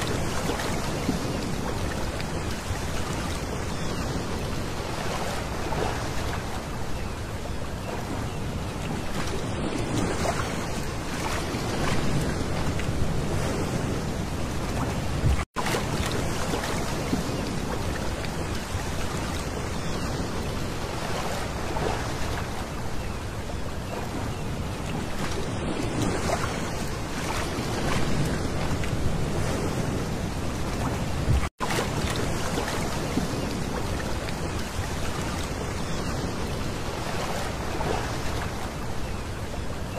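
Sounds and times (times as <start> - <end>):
waves washing over pebbles: 0.0 - 6.8, 8.8 - 22.9, 24.9 - 39.9.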